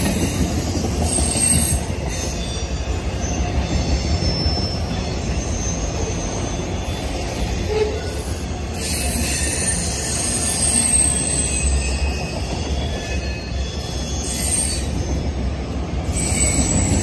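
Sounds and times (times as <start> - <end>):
freight cars rumbling on rails: 0.0 - 17.0
high thin wheel squeal: 1.0 - 15.4, 16.0 - 17.0.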